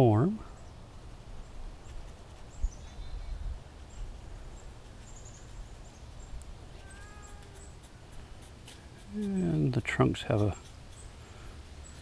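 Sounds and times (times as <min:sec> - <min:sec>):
small bird chirping: 0:01.4 - 0:12.0.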